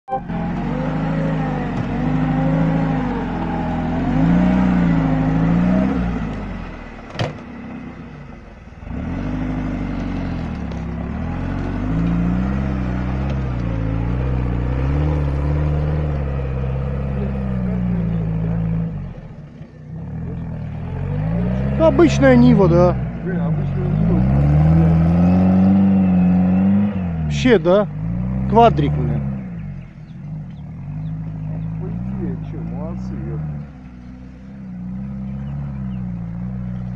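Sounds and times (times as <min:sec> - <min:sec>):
off-road vehicle engine revving: 0:00.0 - 0:36.9.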